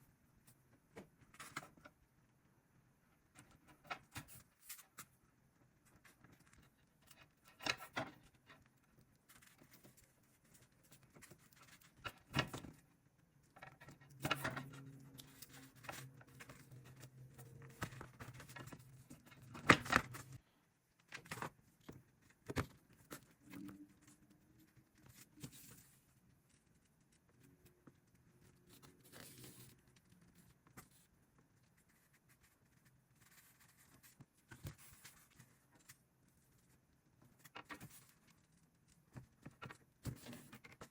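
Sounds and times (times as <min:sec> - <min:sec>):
rustling and crinkling materials: 0:03.2 - 0:40.9.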